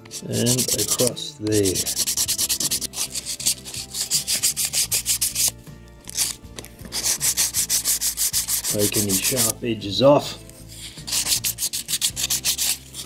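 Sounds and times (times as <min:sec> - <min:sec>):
sandpaper rubbing wood: 0:00.1 - 0:09.6, 0:10.6 - 0:13.0.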